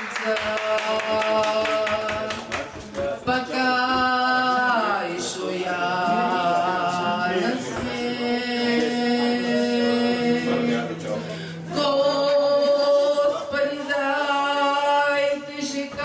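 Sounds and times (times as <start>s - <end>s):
woman singing into microphone: 0.0s - 2.5s, 3.2s - 16.0s.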